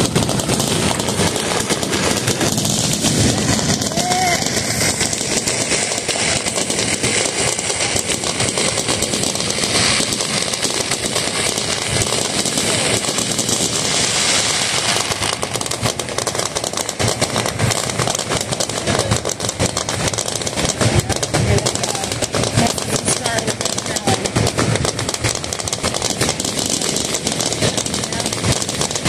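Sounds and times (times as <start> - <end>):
fireworks crackling and popping: 0.0 - 29.0
fireworks hissing: 0.0 - 29.0.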